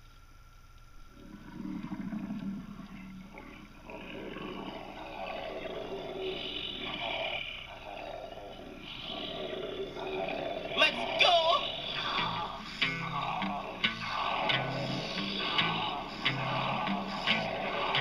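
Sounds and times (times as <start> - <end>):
animal growling: 1.2 - 18.0.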